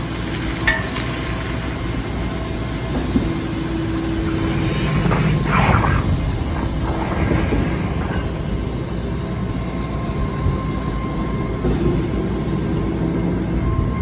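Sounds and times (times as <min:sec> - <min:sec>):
concrete pump truck rumbling: 0:00.0 - 0:14.0.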